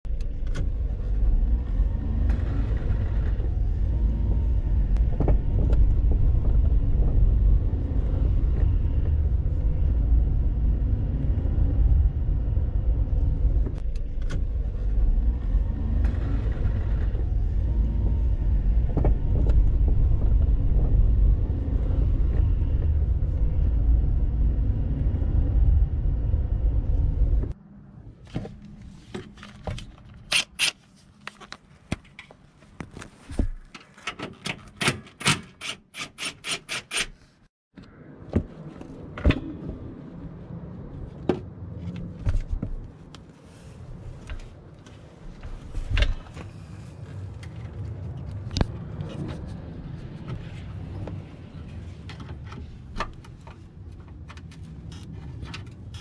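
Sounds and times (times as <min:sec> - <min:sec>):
low road rumble: 0:00.0 - 0:56.0.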